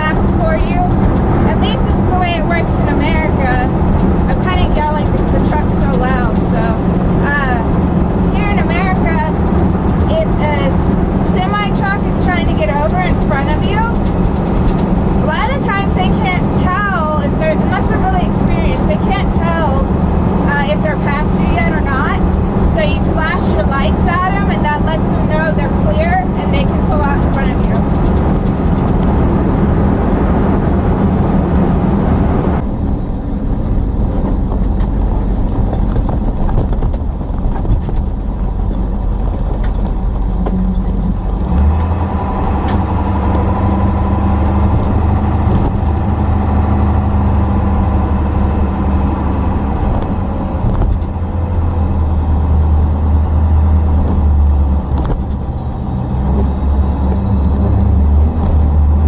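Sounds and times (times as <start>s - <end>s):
road noise: 0.0s - 59.0s
truck engine droning: 0.0s - 59.0s.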